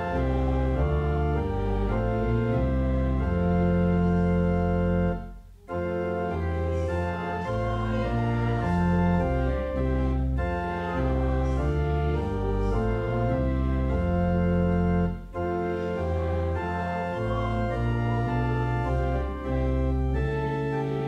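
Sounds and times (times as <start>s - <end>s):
pipe organ playing a hymn: 0.0s - 21.0s.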